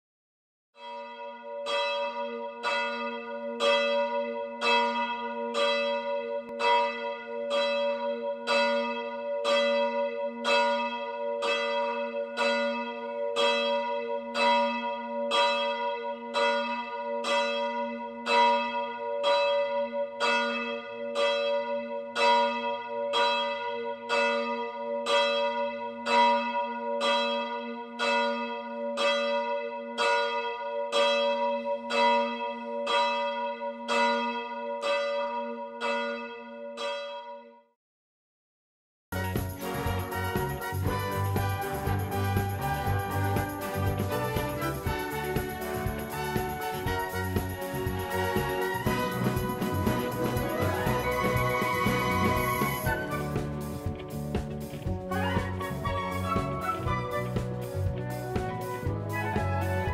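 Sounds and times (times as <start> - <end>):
church bell tolling: 0.8 - 37.6, 39.2 - 53.7.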